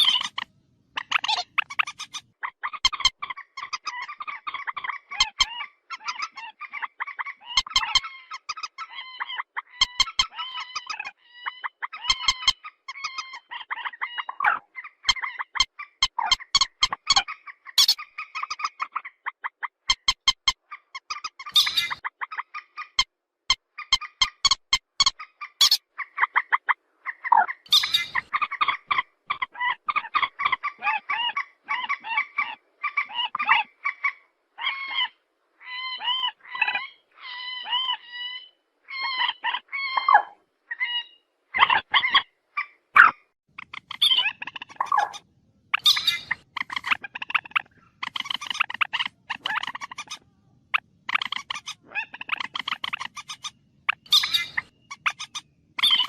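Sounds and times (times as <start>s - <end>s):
swamphen calling: 0.0s - 23.0s, 23.8s - 56.0s
harsh bird cries: 0.0s - 23.1s, 23.7s - 56.0s.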